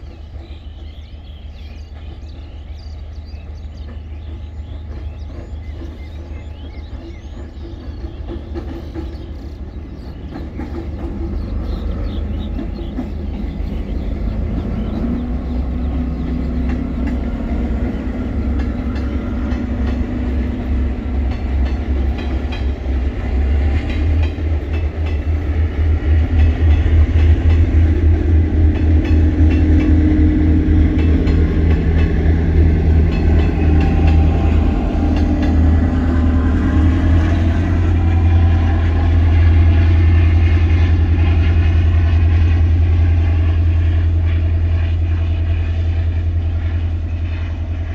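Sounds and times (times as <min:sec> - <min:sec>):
diesel train rumble: 0:00.0 - 0:47.9
wheels clacking over rail joints: 0:03.5 - 0:47.9.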